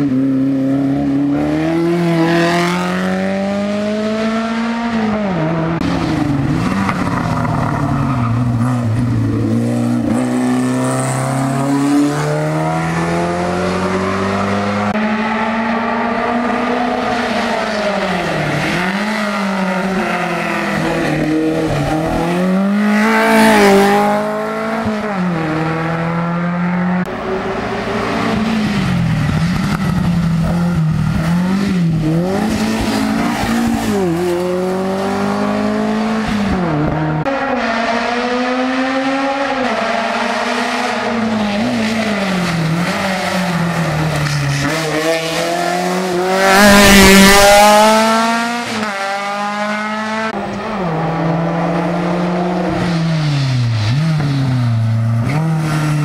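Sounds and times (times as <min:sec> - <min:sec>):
race car engines accelerating hard: 0:00.0 - 0:56.0.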